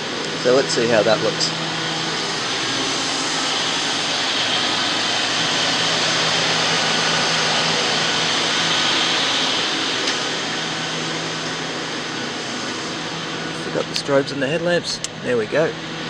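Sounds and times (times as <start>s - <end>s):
car engine idling: 0.0s - 16.0s
ventilation fan blowing: 0.0s - 16.0s.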